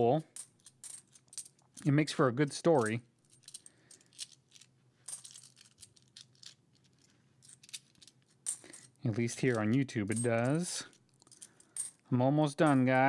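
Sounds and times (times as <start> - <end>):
coins clinking: 0.3 - 2.0, 2.7 - 12.0, 12.6 - 13.0.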